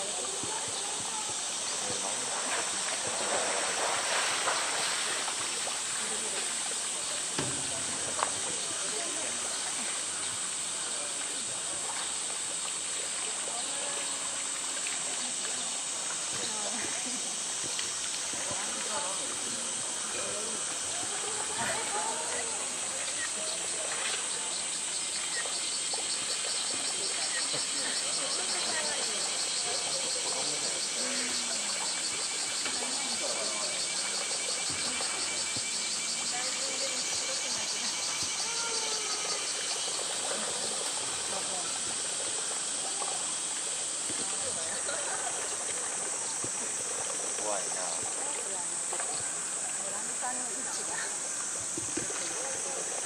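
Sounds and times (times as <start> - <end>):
cicada chorus: 0.0 - 53.0
faint voices: 0.0 - 53.0.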